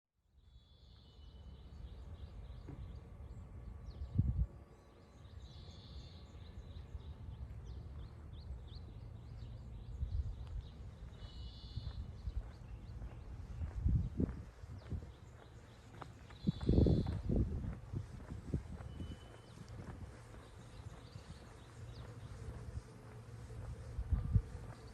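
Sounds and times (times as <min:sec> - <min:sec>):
steady low rumble: 0:01.3 - 0:24.9
small birds chirping: 0:04.8 - 0:24.9.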